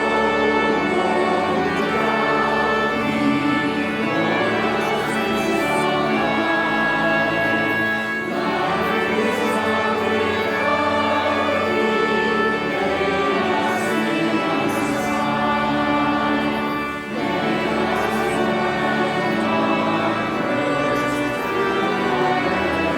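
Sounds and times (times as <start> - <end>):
choir singing a hymn: 0.0 - 22.9
sustained accompaniment: 0.0 - 22.9.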